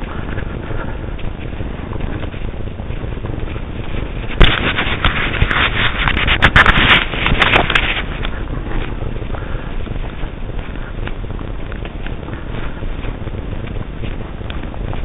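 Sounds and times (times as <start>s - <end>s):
footsteps on forest trail: 0.0s - 15.0s
rustling against microphone: 0.0s - 15.0s.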